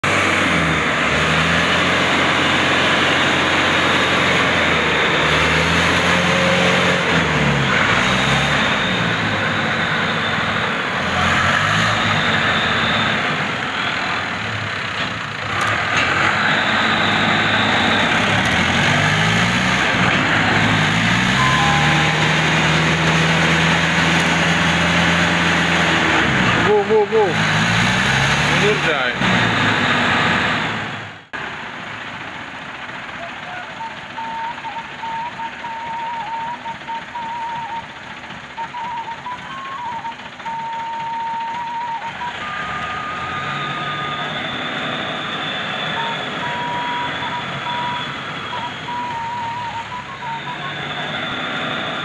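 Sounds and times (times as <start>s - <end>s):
tractor diesel engine revving: 0.0s - 52.0s
truck diesel engine revving: 0.0s - 52.0s.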